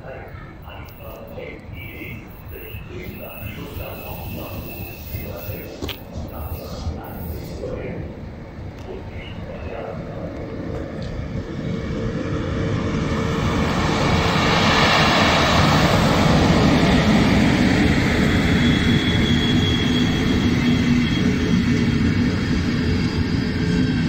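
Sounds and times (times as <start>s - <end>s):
faint whine: 0.0s - 23.8s
train wheels rumbling on rails: 0.0s - 24.0s.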